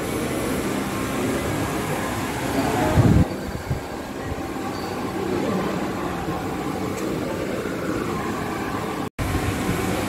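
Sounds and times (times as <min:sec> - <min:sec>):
mechanical drone: 0:00.0 - 0:10.0.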